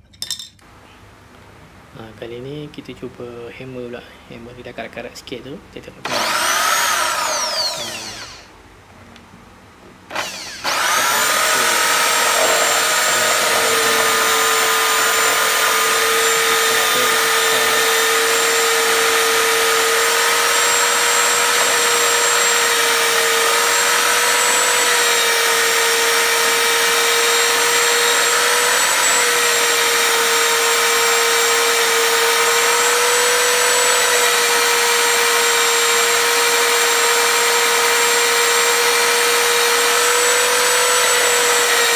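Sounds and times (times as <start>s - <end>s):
electric drill whining: 6.0s - 8.5s, 10.1s - 41.9s.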